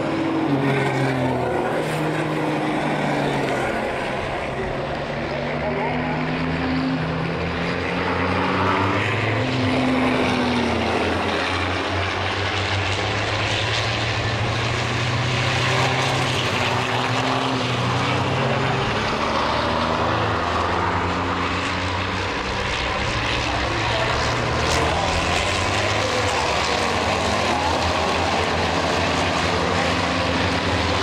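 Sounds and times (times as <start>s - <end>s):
racing truck engines running hard: 0.0s - 31.0s.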